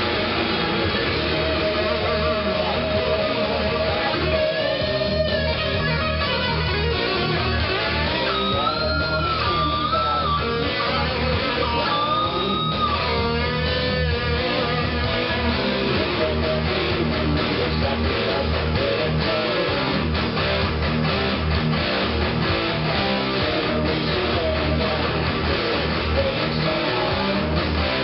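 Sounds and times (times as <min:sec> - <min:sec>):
drums and bass: 0:00.0 - 0:28.0
electric guitar lead: 0:00.0 - 0:28.0.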